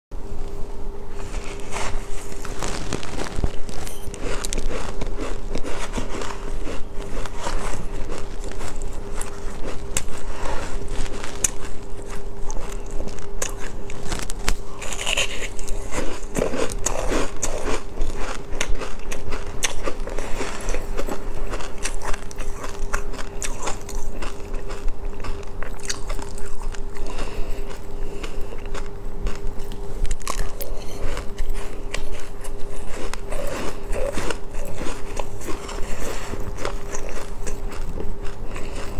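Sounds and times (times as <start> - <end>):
steady background hum: 0.1 - 38.9
crunchy bites and chewing: 1.2 - 38.9.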